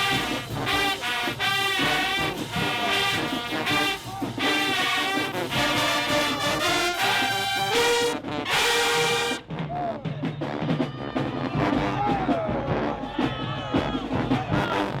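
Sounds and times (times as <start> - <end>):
marching band brass playing: 0.0 - 15.0.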